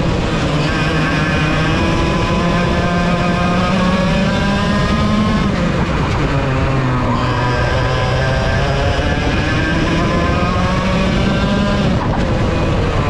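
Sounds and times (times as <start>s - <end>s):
kart engine revving: 0.0s - 13.0s.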